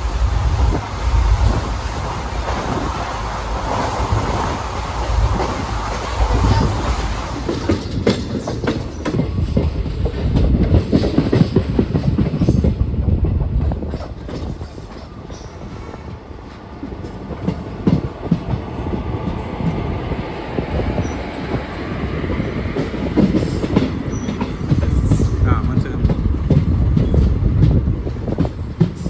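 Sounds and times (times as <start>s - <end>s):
train wheels clattering on rails: 0.0s - 29.0s.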